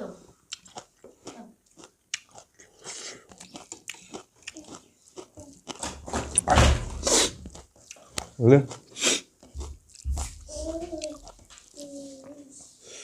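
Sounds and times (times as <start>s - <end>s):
wet chewing clicks and smacks: 0.4s - 6.5s, 7.4s - 11.8s.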